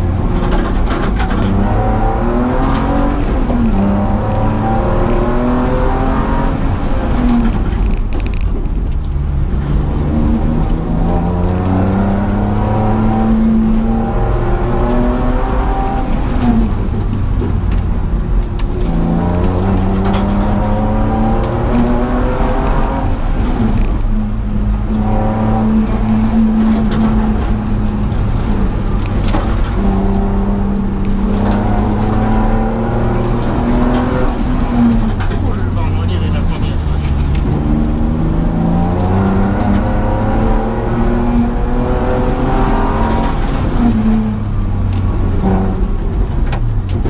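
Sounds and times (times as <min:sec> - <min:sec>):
car engine pulling hard: 0:00.0 - 0:47.0.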